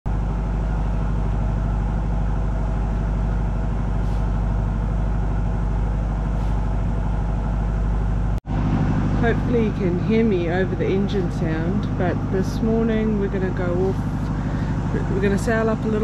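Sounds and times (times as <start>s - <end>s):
boat engine running: 0.1s - 16.0s.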